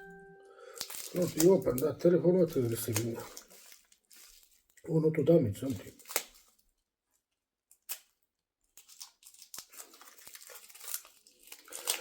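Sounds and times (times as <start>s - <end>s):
packaging rustling and tearing: 0.6s - 12.0s.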